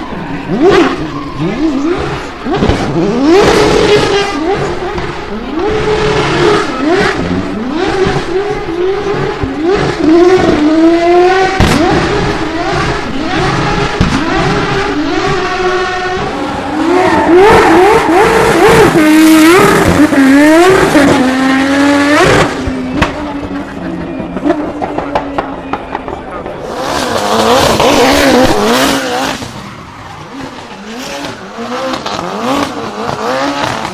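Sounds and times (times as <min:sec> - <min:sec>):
car engine revving hard: 0:00.0 - 0:33.9.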